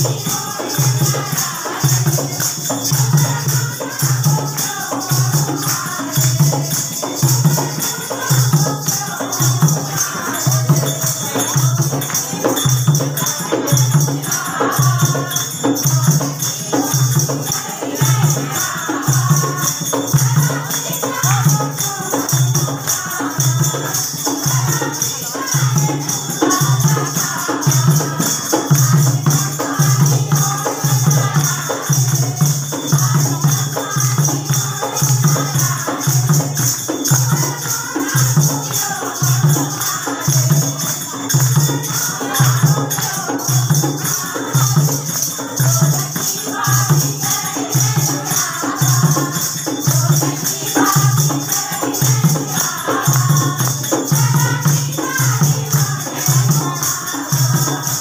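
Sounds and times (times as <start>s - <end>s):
hand drum beat: 0.0s - 58.0s
jingling percussion: 0.0s - 58.0s
women singing folk song: 0.0s - 58.0s.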